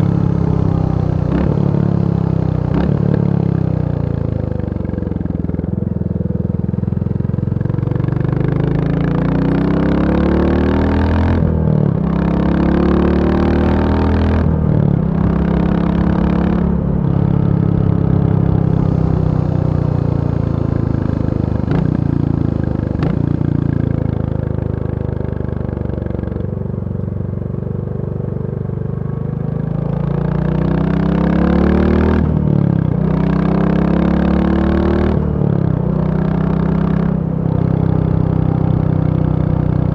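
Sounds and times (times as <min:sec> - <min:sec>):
single-cylinder motorcycle engine: 0:00.0 - 0:39.9.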